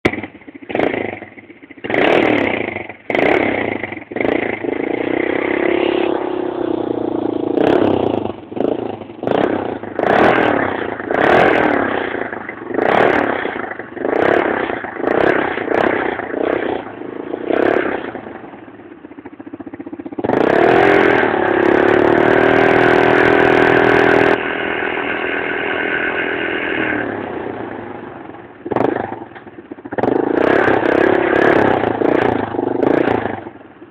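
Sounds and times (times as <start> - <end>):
engine revving: 0.0 - 33.6.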